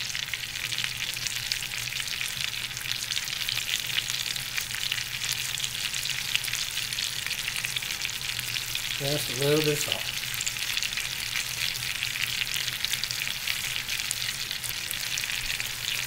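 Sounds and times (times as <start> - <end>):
chicken sizzling in skillet: 0.0 - 16.0.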